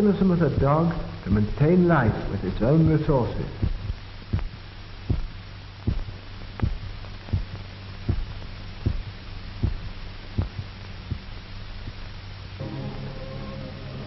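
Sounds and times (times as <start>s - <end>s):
heartbeat thumps: 0.0s - 12.2s
low hum: 0.0s - 14.0s.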